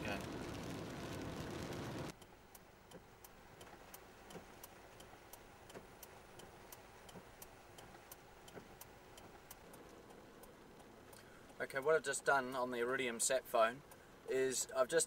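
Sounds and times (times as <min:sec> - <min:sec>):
faint steady ticking: 0:00.0 - 0:15.0.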